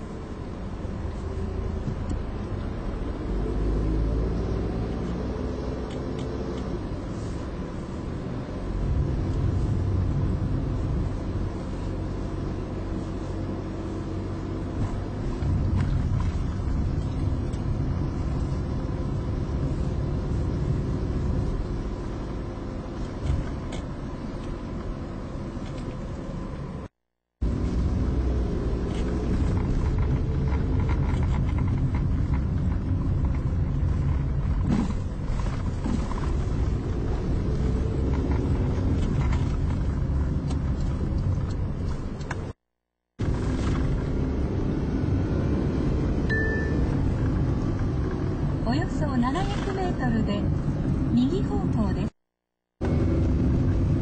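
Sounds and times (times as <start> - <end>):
car engine inside cabin: 0.0 - 42.6, 43.2 - 52.2, 52.8 - 54.0
road rumble: 0.0 - 54.0.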